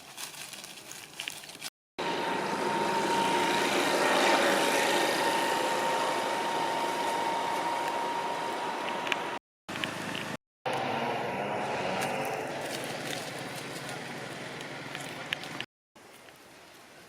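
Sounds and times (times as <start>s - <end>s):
vehicle engine droning with whine: 2.0s - 15.7s.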